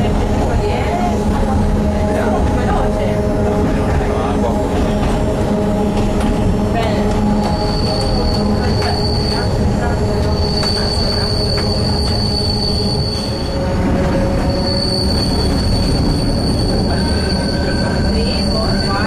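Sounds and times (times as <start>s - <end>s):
rumble of running train: 0.0s - 19.0s
train wheels squealing on rails: 3.6s - 19.0s.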